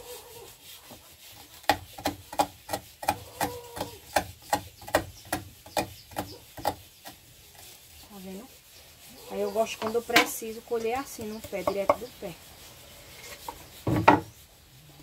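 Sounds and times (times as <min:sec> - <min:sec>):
root scraping on hand grater: 0:00.0 - 0:15.0.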